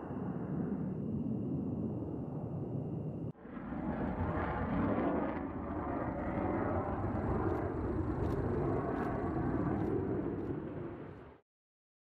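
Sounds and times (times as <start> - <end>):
jet engine deep rushing: 0.1 - 11.4.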